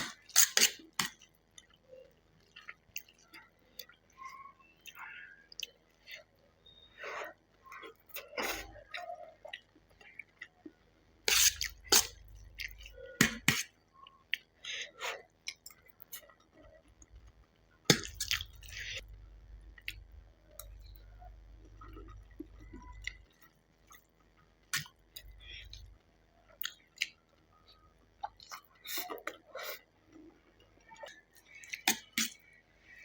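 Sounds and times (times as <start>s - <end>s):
mouth chewing and smacking: 0.0s - 32.6s.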